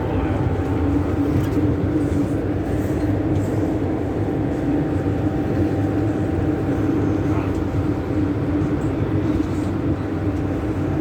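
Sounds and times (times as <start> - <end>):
constant hum: 0.0 - 11.0
train wheels rumbling on track: 0.0 - 11.0.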